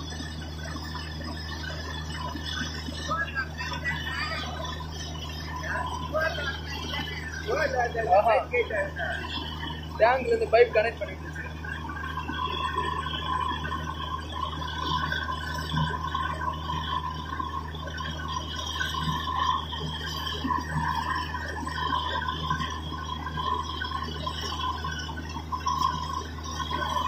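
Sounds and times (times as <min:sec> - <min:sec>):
drilling rig humming: 0:00.0 - 0:27.0.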